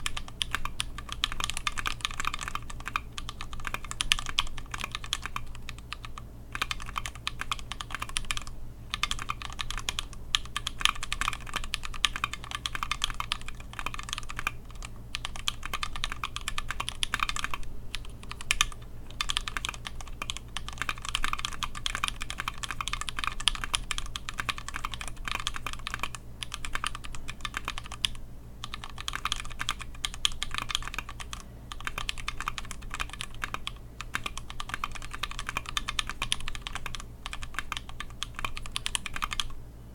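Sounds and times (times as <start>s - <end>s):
mechanical keyboard typing: 0.0s - 39.6s
faint low hum: 0.0s - 39.9s.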